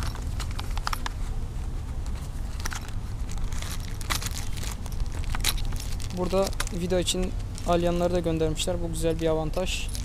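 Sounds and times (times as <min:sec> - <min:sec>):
box and packaging clicks and rustles: 0:00.0 - 0:08.3
steady low rumble: 0:00.0 - 0:10.0.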